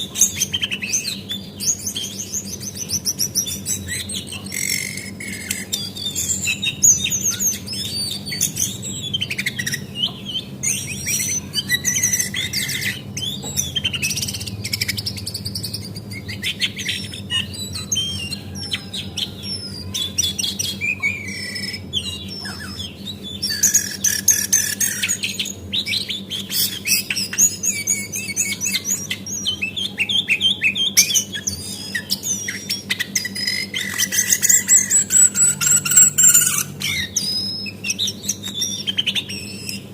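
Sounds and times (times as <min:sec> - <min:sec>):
bird high chirps and trills: 0:00.0 - 0:39.9
faint steady hum: 0:00.0 - 0:39.9.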